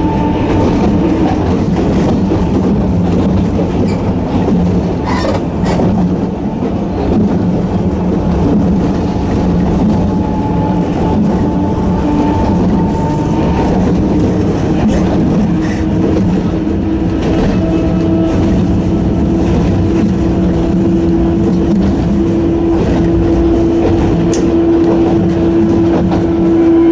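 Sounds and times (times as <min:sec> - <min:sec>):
electric train running: 0:00.0 - 0:26.9.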